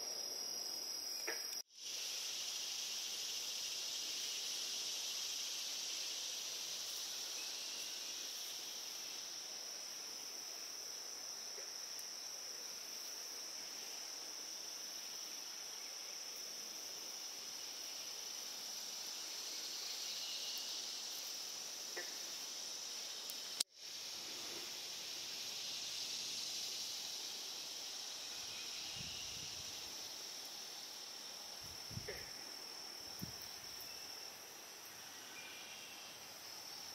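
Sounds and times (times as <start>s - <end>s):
insect trill: 0.0s - 36.9s.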